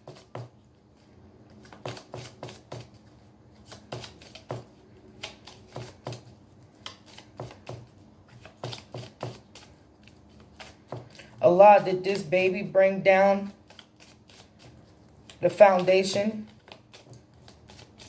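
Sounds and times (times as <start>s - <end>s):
cards being shuffled: 0.0s - 11.4s, 13.4s - 18.0s.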